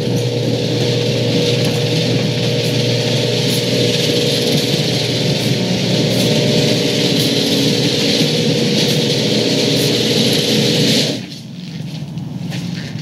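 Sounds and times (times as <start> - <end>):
garage door opener motor hum: 0.0 - 13.0.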